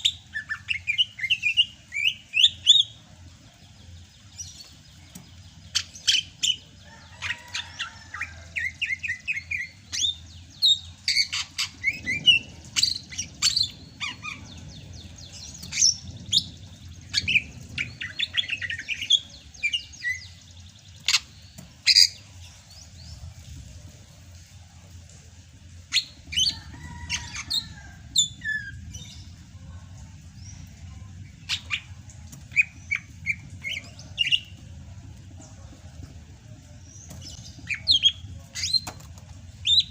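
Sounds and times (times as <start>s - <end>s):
bird singing chirps and trills: 0.0s - 23.6s, 25.8s - 39.9s.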